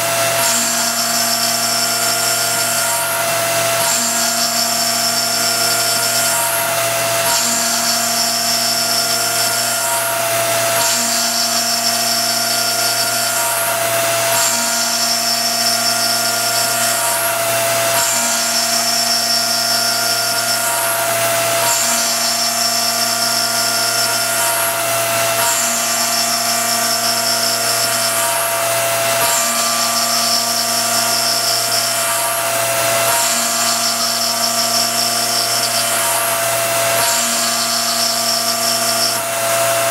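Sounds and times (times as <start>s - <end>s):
machine whine: 0.0s - 39.9s
milling machine cutting: 0.0s - 39.9s.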